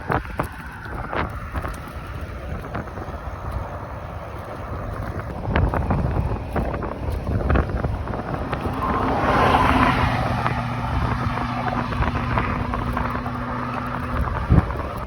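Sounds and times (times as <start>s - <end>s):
motor vehicle passing: 0.0s - 15.0s
wind buffeting microphone: 0.0s - 15.0s.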